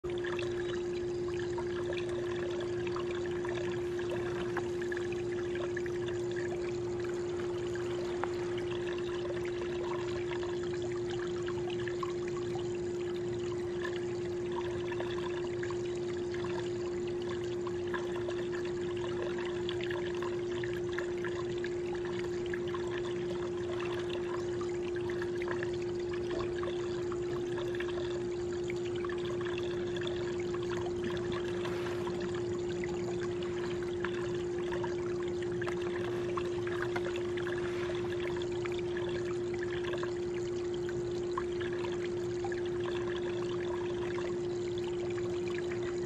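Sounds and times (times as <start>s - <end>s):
steady hum: 0.0s - 46.0s
water trickling and lapping: 0.0s - 46.0s.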